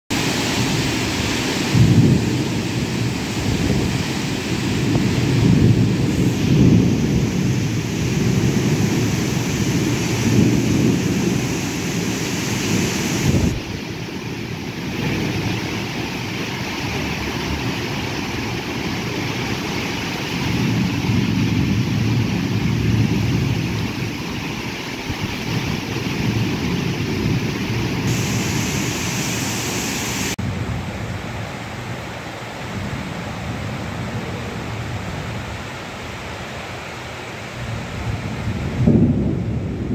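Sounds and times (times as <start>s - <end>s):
heavy rain: 0.1s - 39.9s
wind gusts buffeting microphone: 0.2s - 35.8s, 37.6s - 39.9s.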